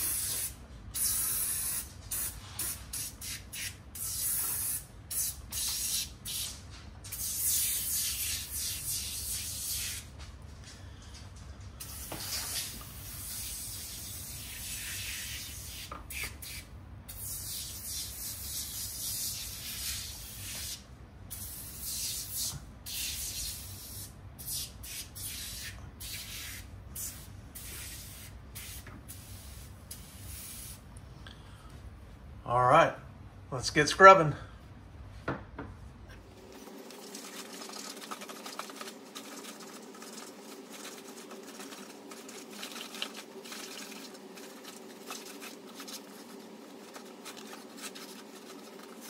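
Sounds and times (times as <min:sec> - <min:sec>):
aerosol can spraying: 0:00.0 - 0:10.1, 0:11.8 - 0:30.8, 0:36.6 - 0:49.0.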